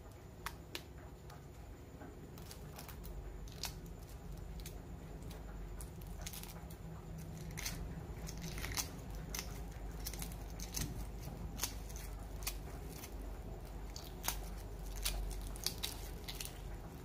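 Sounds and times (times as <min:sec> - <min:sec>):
eggshell crackling as peeled: 0:02.2 - 0:17.0.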